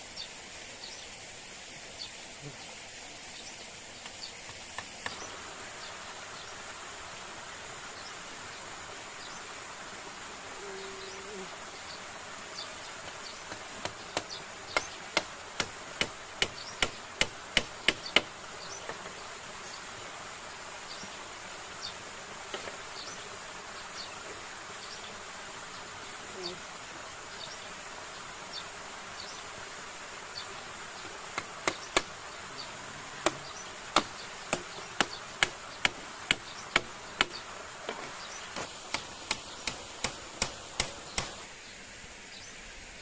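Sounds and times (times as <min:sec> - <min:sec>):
constant hiss: 0:00.0 - 0:43.0
forest insects buzzing: 0:00.0 - 0:43.0.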